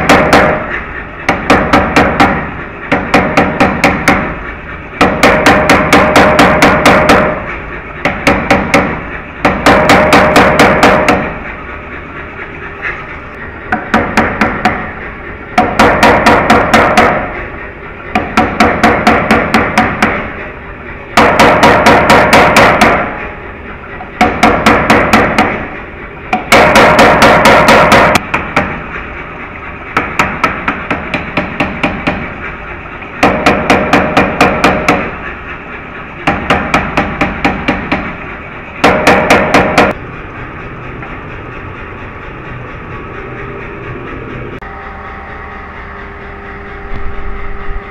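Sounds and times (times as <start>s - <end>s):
power hammer pounding steel: 0.0s - 44.8s.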